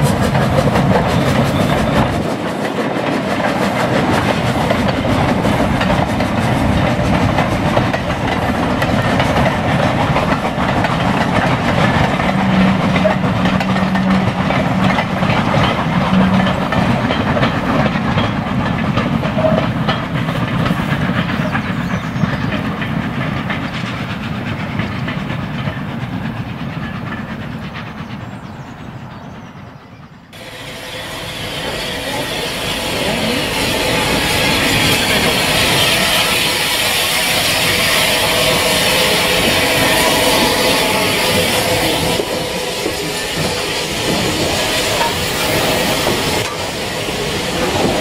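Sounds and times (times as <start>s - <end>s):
wheels clicking over rail joints: 0.0s - 29.6s, 31.6s - 48.0s.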